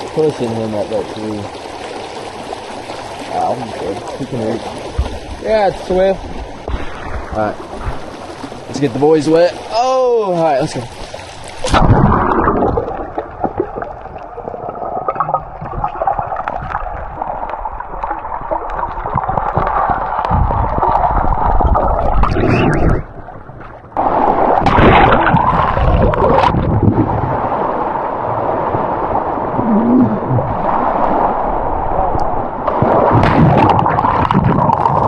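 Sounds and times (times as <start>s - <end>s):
river water rushing underwater: 0.0s - 35.0s
water bubbling: 0.0s - 35.0s.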